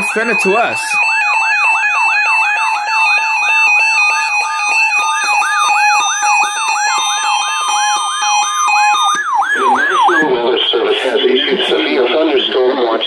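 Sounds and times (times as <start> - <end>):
electronic siren alarm yelping: 0.0 - 12.6
steady high alarm tones: 0.0 - 13.0.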